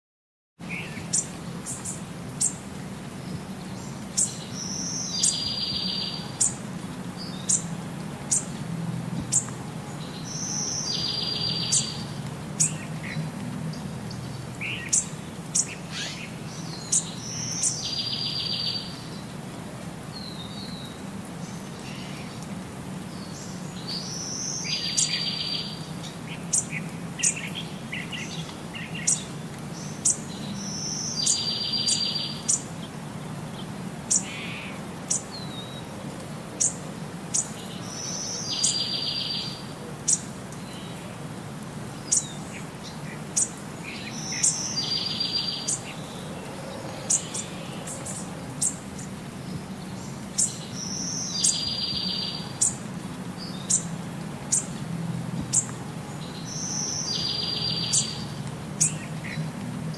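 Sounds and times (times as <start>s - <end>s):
small birds chirping: 0.6s - 8.6s, 9.2s - 19.4s, 20.1s - 35.9s, 36.5s - 41.2s, 41.9s - 59.6s.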